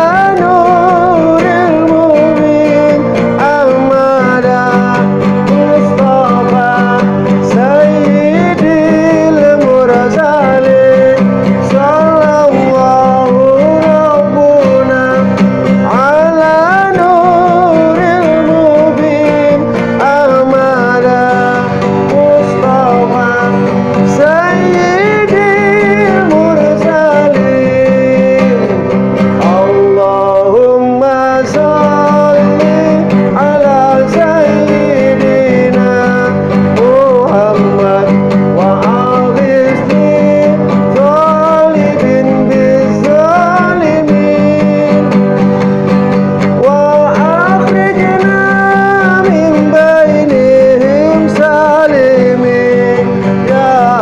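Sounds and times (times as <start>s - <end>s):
man singing: 0.0s - 54.0s
strummed acoustic guitar: 0.0s - 54.0s.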